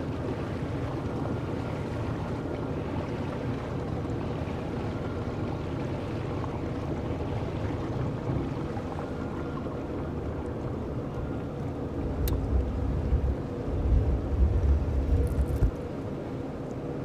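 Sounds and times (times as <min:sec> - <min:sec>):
boat engine running: 0:00.0 - 0:17.0
water rushing along hull: 0:00.0 - 0:17.0.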